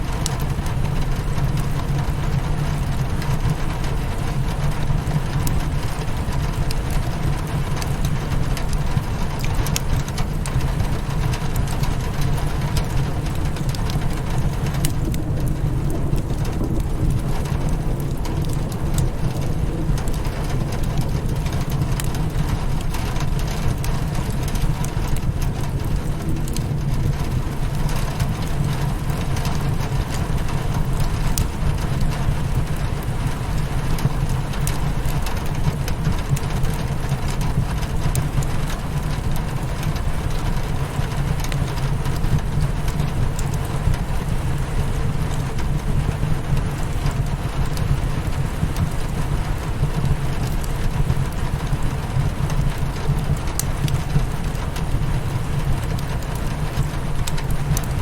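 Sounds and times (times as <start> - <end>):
rain pattering on window: 0.0 - 58.0
steady low rumble: 0.0 - 58.0
wood fire crackling: 0.0 - 58.0.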